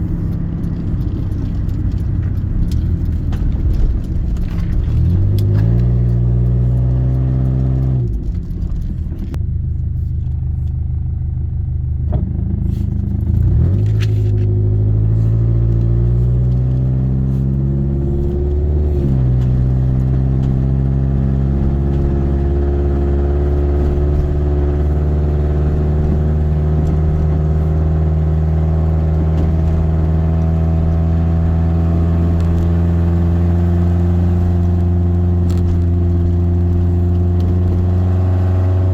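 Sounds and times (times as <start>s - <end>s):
car engine accelerating: 0.0s - 38.9s
road noise: 0.0s - 38.9s.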